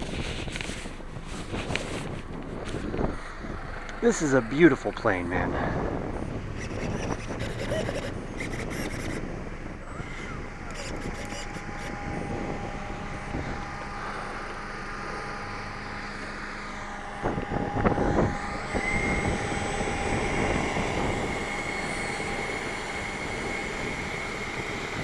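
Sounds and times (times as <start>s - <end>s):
electric ducted fan whining: 0.0s - 25.0s
wind buffeting microphone: 0.0s - 25.0s.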